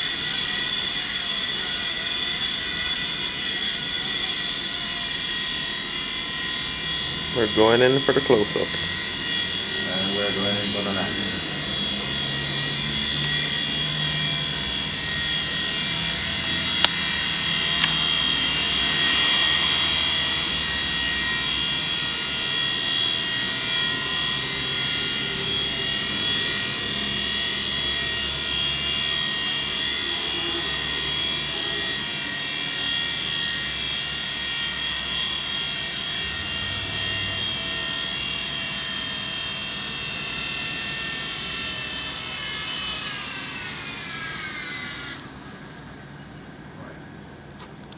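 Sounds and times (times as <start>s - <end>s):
toy helicopter motors whining: 0.0s - 47.7s.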